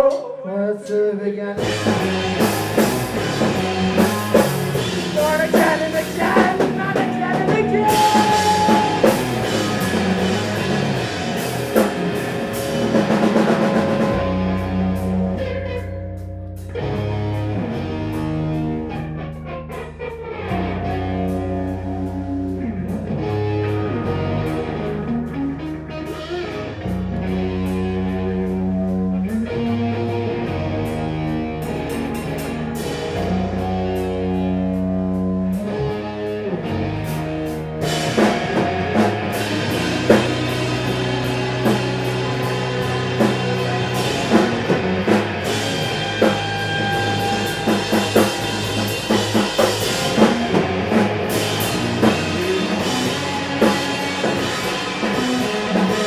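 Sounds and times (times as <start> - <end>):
drum kit playing: 1.6 - 56.0
rock band playing live: 1.6 - 56.0.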